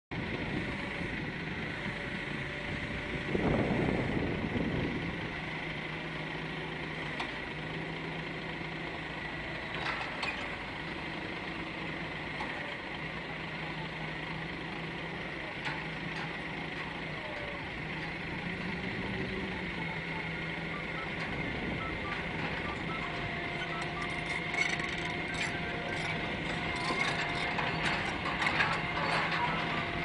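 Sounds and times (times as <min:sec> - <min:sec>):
heavy diesel machinery running: 0:00.1 - 0:30.0.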